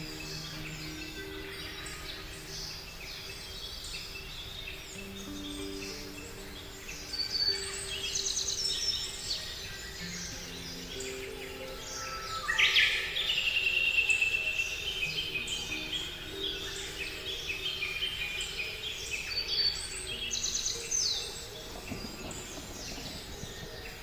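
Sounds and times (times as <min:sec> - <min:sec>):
songbirds whistling and trilling: 0:00.0 - 0:24.0.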